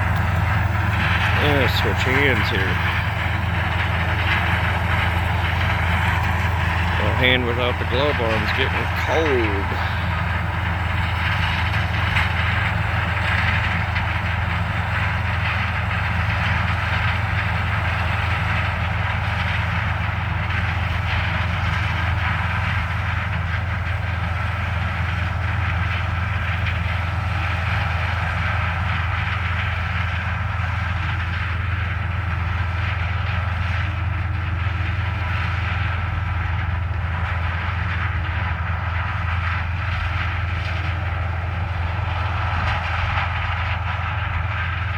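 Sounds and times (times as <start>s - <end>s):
deep engine drone: 0.0s - 44.9s.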